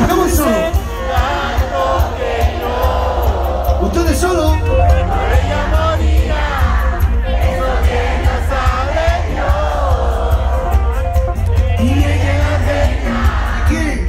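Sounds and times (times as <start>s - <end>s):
crowd singing along: 0.0s - 14.0s
lead vocal singing: 0.0s - 14.0s
live pop music with heavy bass: 0.0s - 14.0s.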